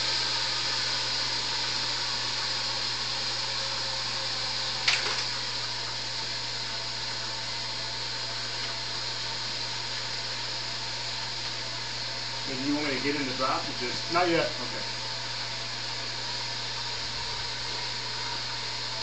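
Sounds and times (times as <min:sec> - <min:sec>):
mechanical whirring hiss: 0:00.0 - 0:19.0.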